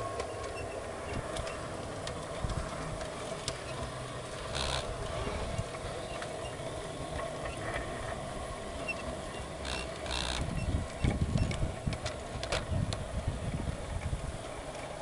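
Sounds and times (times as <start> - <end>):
low rumbling: 0.0 - 15.0
model train motor hum: 0.0 - 15.0
wheels clicking over rail joints: 0.0 - 15.0.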